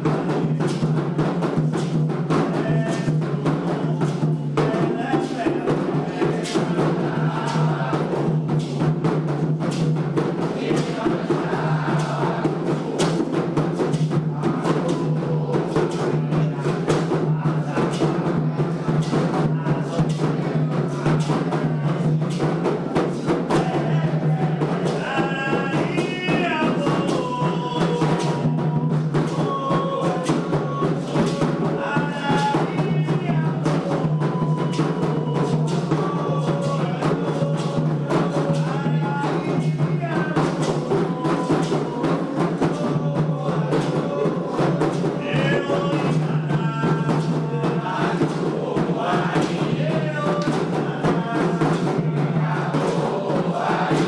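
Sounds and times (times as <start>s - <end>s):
hand drums playing: 0.0s - 54.0s
voices singing a chant: 0.0s - 54.0s.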